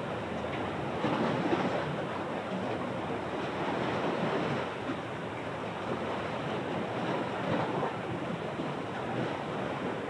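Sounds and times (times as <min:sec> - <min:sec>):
waves rushing: 0:00.0 - 0:10.0
wind: 0:00.0 - 0:10.0.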